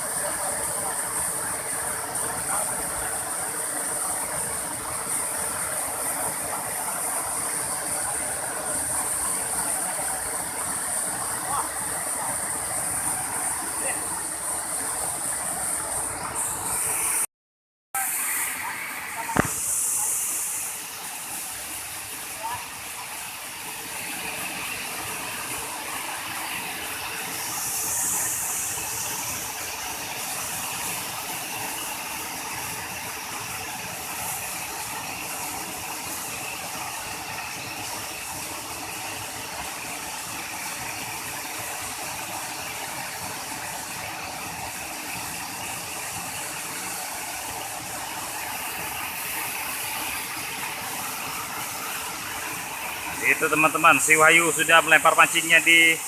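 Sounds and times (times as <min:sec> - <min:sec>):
waterfall and river rushing: 0:00.0 - 0:17.3, 0:18.0 - 0:56.0.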